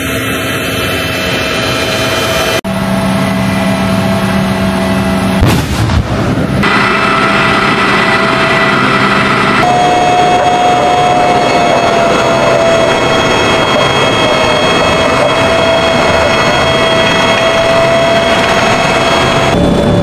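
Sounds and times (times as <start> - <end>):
tank turbine engine running: 0.0 - 20.0.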